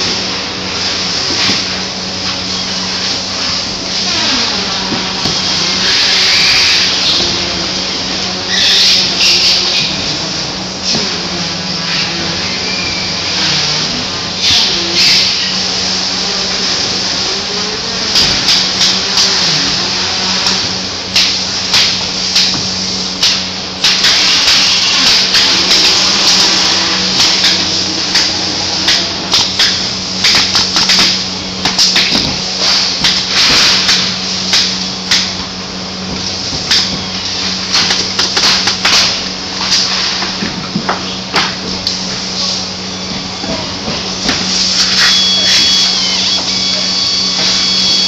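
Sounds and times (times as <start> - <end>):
steady machinery hum: 0.0 - 48.0.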